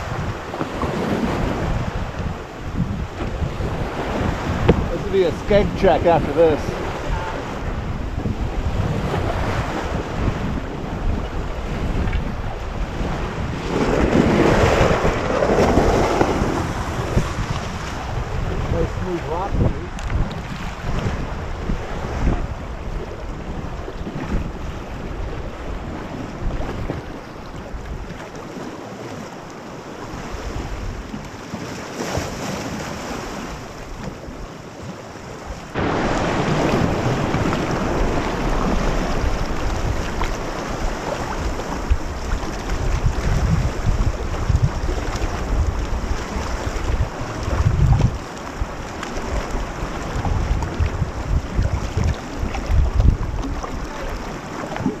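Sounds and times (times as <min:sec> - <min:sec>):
waves splashing: 0:00.0 - 0:55.0
wind buffeting microphone: 0:00.0 - 0:55.0.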